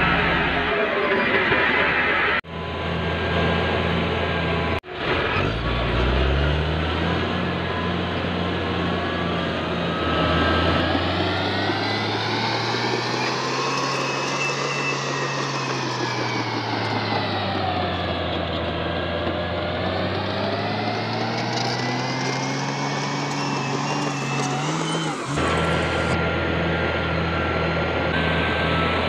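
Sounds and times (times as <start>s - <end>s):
whine over engine: 0.0s - 29.0s
bulldozer diesel engine under load: 2.5s - 29.0s.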